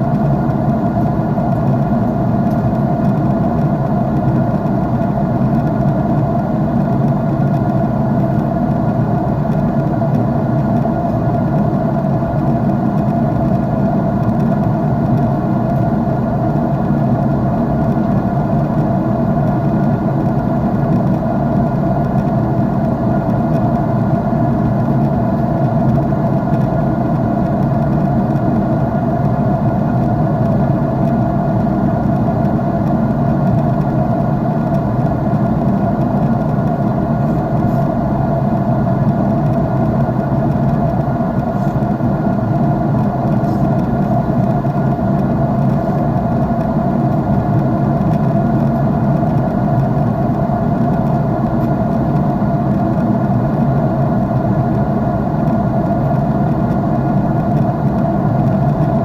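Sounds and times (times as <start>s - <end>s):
jet engine cabin drone: 0.0s - 59.0s.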